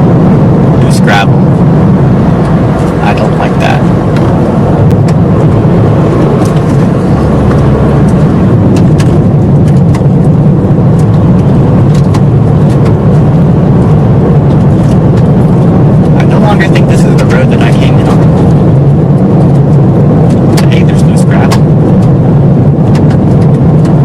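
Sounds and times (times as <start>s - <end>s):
car driving on gravel: 0.0s - 24.0s.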